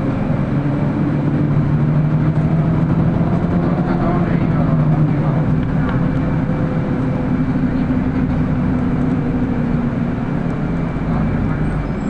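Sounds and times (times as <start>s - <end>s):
bus engine drone: 0.0s - 12.0s
road noise: 0.0s - 12.0s.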